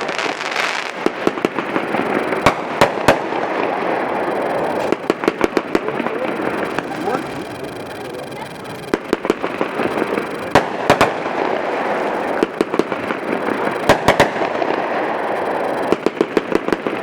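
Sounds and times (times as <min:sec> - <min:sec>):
firework bangs: 0:00.0 - 0:17.0
steady noisy background: 0:00.0 - 0:17.0.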